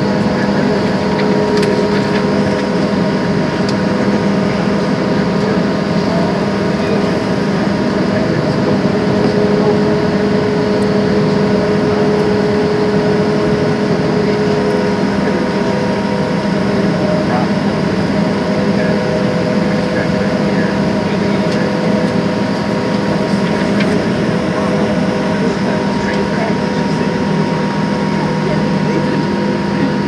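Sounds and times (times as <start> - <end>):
airplane cabin drone: 0.0 - 30.0.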